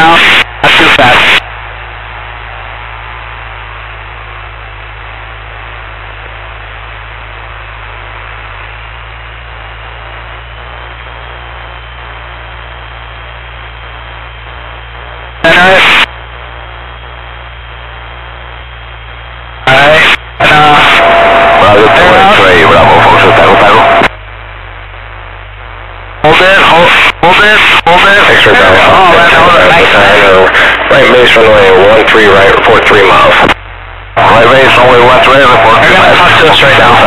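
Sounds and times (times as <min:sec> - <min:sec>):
constant low hum: 0:00.0 - 0:37.0.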